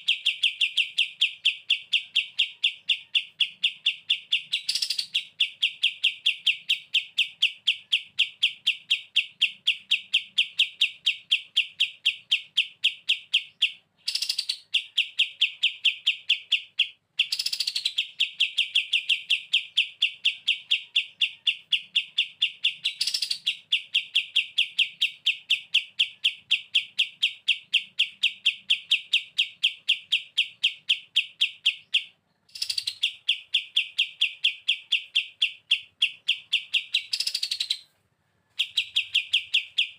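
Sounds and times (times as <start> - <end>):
bulbul singing rapid high chirps: 0.0 - 37.9, 38.6 - 39.9.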